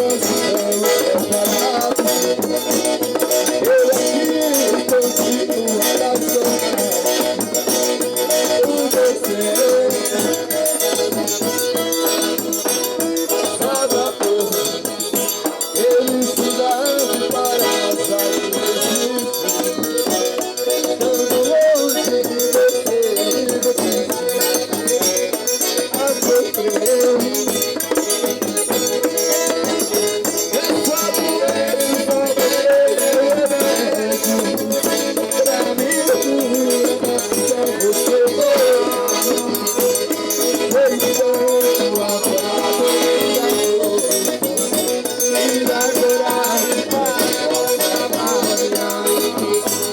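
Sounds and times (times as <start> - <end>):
accordion music: 0.0 - 49.9.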